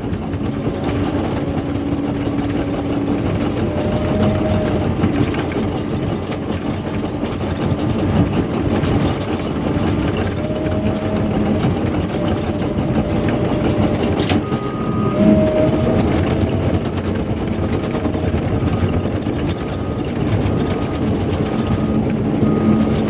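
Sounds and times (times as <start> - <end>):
bulldozer engine and tracks: 0.0 - 23.0.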